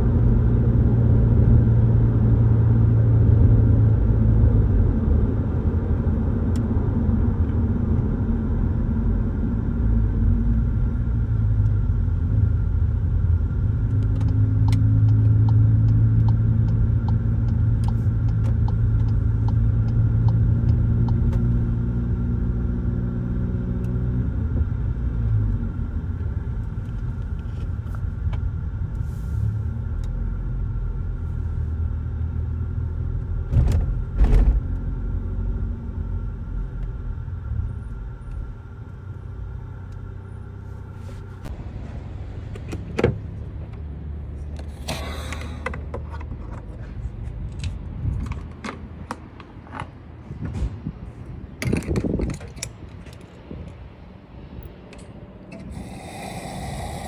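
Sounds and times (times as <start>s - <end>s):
car engine running low: 0.0s - 57.0s.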